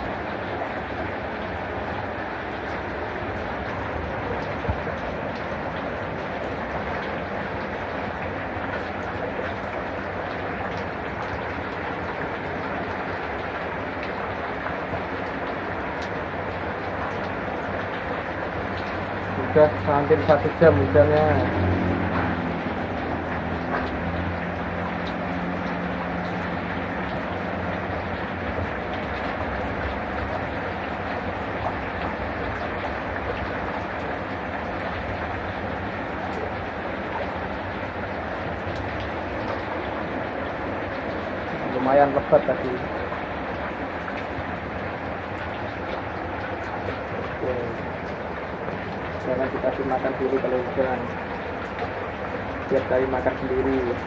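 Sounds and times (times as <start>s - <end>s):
heavy rain on pond water: 0.0s - 54.0s.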